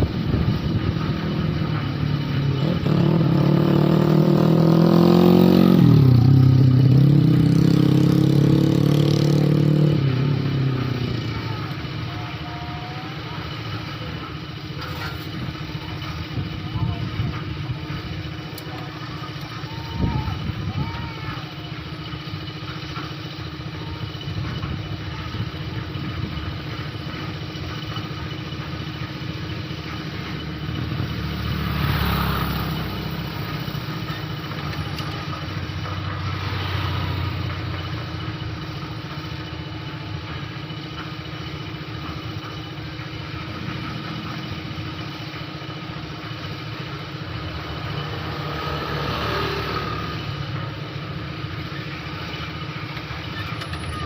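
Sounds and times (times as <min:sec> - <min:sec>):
small engine idling: 0:00.0 - 0:54.0.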